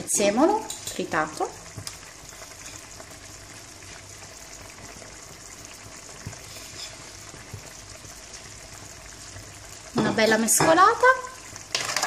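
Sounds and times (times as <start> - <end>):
sauce simmering in a pot: 0.0 - 12.0.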